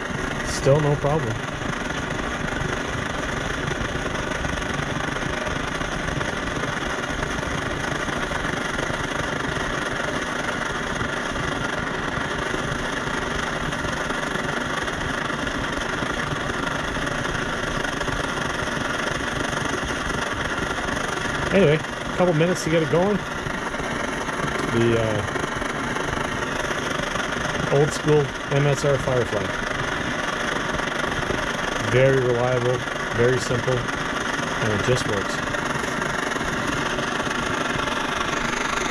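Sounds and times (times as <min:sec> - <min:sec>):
stove burner hissing: 0:00.0 - 0:38.9.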